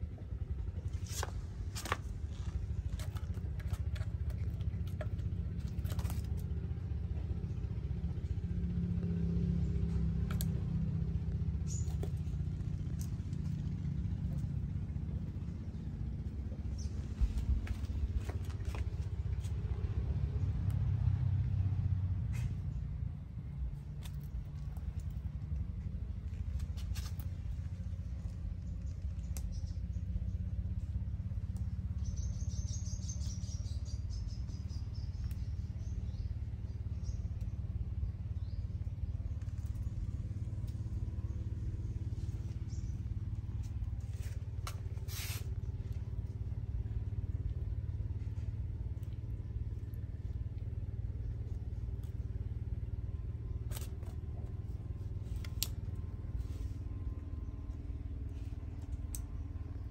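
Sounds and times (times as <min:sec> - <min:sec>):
small birds chirping: 0:00.0 - 0:21.6, 0:22.3 - 0:59.9
low outdoor rumble: 0:00.0 - 0:59.9.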